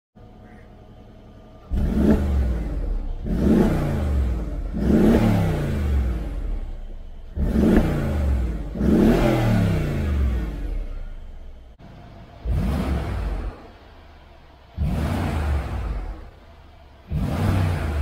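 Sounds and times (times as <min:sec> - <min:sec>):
car engine revving: 0:01.2 - 0:18.0.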